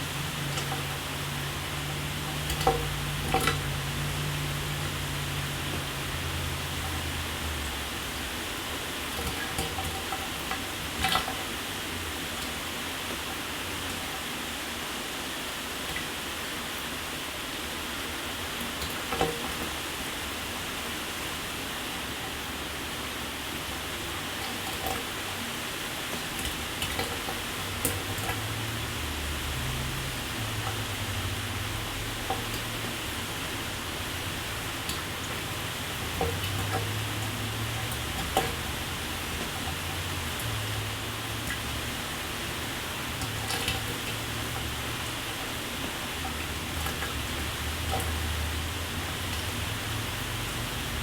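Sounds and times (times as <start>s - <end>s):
water drips and splats: 0.0s - 51.0s.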